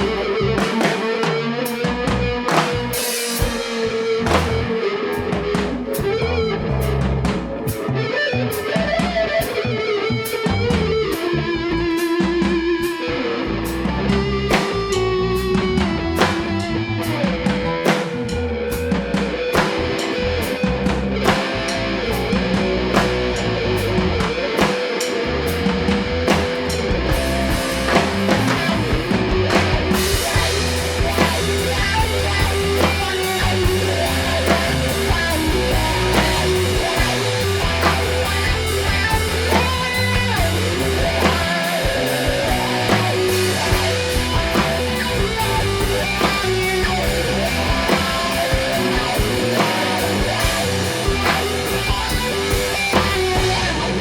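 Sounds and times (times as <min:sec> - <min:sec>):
bass guitar: 0:00.0 - 0:54.0
drum kit: 0:00.0 - 0:54.0
electric guitar bending notes: 0:00.0 - 0:54.0.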